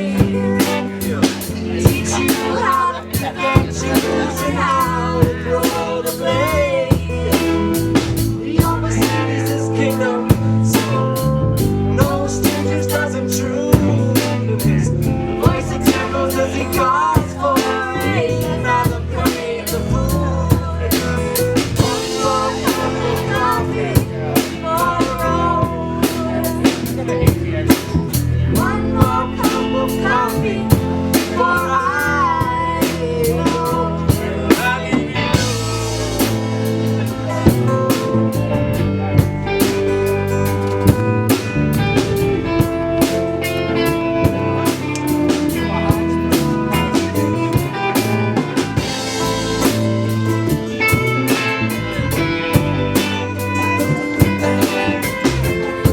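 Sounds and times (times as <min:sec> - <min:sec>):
bass guitar: 0:00.0 - 0:55.9
bending guitar lead lines: 0:00.0 - 0:55.9
drum kit with rimshots: 0:00.0 - 0:55.9.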